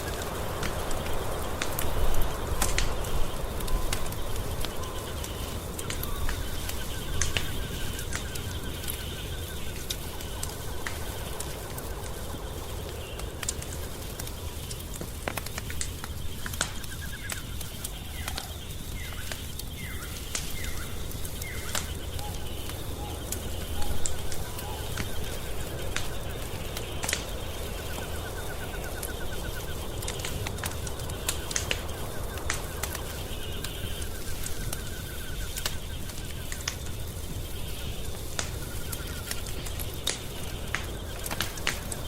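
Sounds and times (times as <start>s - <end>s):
faint high chirping calls: 0.0s - 42.0s
wood fire crackling and popping: 0.0s - 42.0s.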